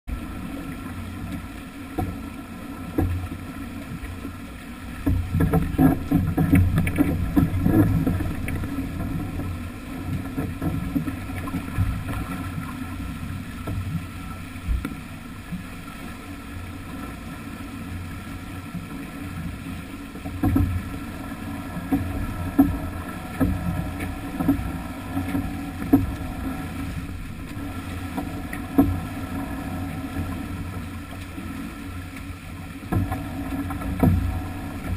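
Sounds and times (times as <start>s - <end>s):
water rushing along hull: 0.0s - 34.9s.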